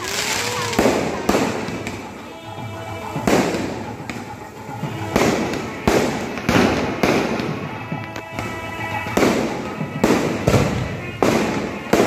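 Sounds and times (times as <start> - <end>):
fireworks bursting with loud bangs: 0.0 - 12.0.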